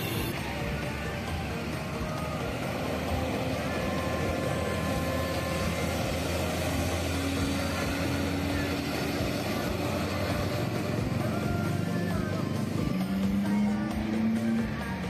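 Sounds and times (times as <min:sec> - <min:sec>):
hum of cars and motorcycles: 0:00.0 - 0:15.0
truck engine passing close: 0:00.0 - 0:15.0.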